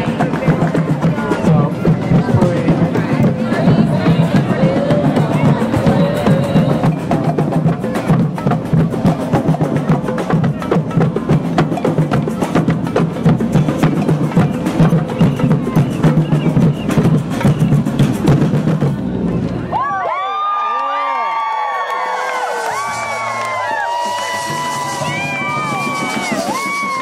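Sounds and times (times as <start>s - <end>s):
drums: 0.0s - 20.2s, 22.0s - 27.0s.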